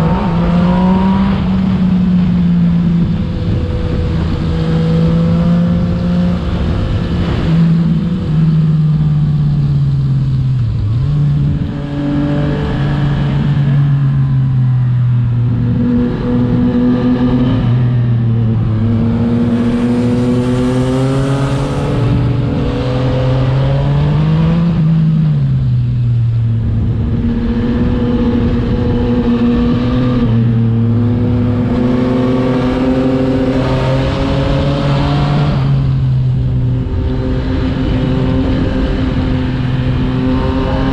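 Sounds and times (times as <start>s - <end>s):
motorcycle exhaust revving: 0.0s - 40.9s
wind noise: 0.0s - 40.9s.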